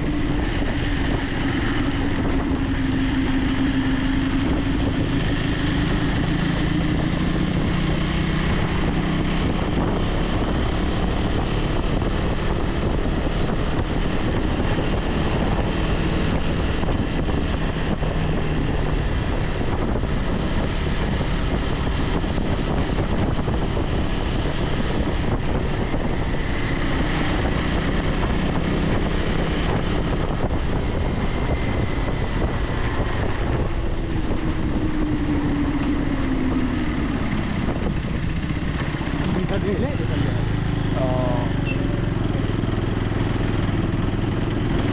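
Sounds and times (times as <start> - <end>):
motorcycle engine cruising: 0.0 - 44.9
wind rushing on microphone: 0.0 - 44.9.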